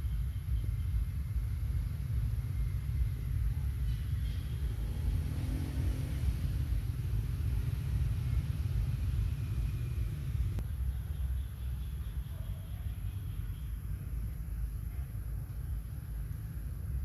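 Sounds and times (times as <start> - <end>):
faint hum: 0.0 - 17.0
low outdoor rumble: 0.0 - 17.0.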